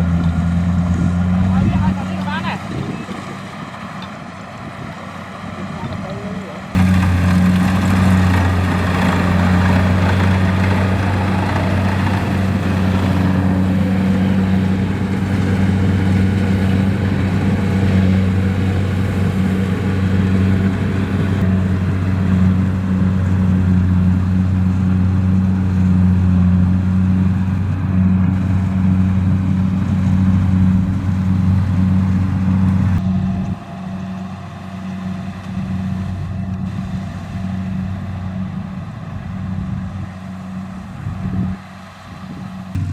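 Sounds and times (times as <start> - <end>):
diesel engine drone: 0.0 - 42.9
machinery rush: 0.0 - 42.9.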